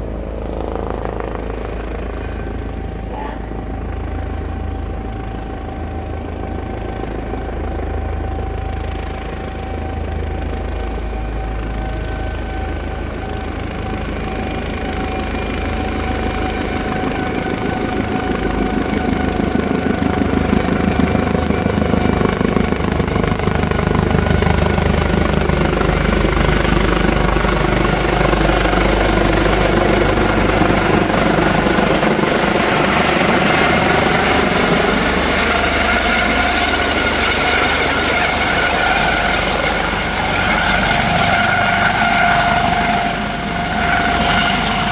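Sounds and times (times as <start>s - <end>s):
helicopter rotor and turbine whine: 0.0s - 44.9s.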